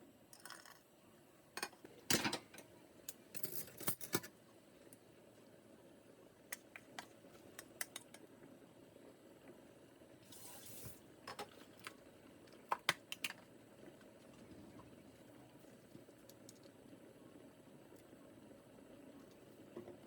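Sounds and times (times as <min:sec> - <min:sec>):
faint room hum: 0:00.0 - 0:20.0.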